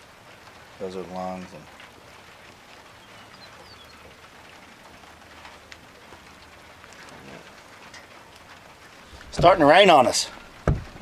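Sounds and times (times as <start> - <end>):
light rain patter: 0.0 - 11.0
raindrops ticking: 0.0 - 11.0.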